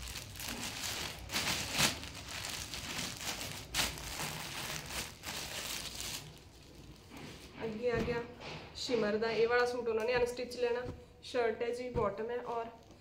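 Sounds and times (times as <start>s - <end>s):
fabric and packaging rustling: 0.0s - 11.0s.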